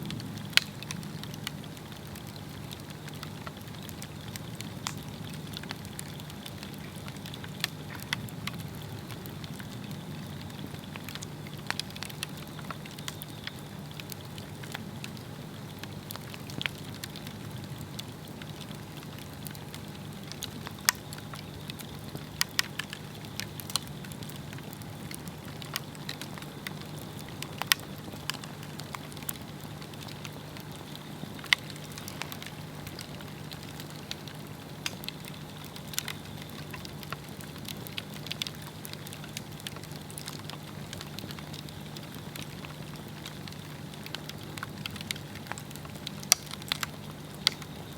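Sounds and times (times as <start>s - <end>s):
burning log crackling: 0.0s - 47.9s
soft fire hiss: 0.0s - 47.9s.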